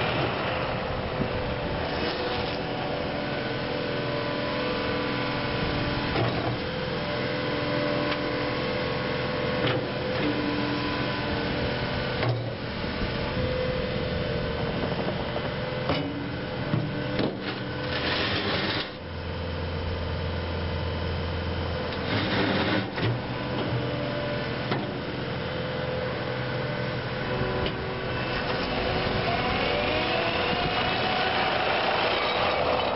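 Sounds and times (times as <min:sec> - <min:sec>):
track loader diesel engine: 0:00.0 - 0:32.9.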